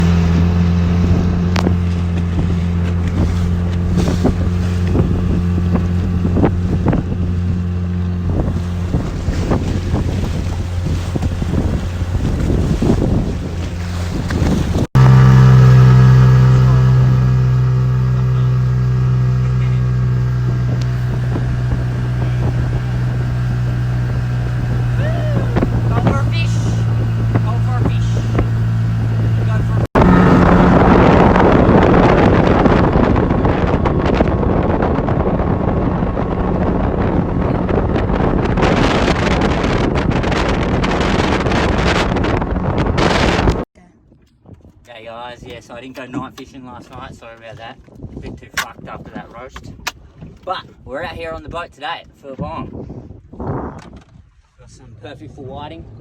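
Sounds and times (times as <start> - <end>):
outboard motor running: 0.0 - 43.6, 45.4 - 56.0
wind on microphone: 0.0 - 56.0.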